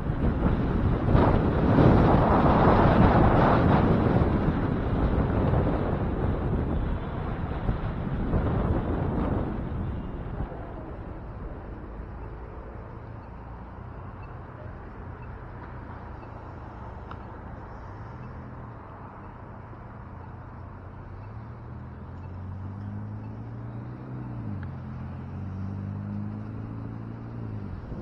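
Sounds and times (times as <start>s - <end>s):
cars passing: 0.0s - 28.0s
low engine hum: 0.0s - 28.0s.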